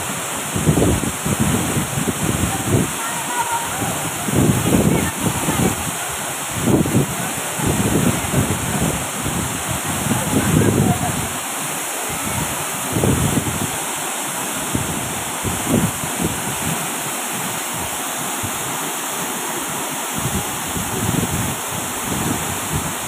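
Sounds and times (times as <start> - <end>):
waterfall roaring: 0.0 - 23.0
wind buffeting microphone: 0.4 - 11.4, 12.0 - 23.0.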